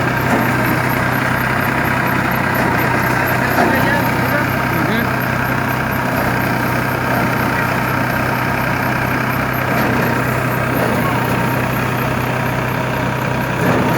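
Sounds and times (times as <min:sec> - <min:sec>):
tractor diesel engine running: 0:00.0 - 0:13.9.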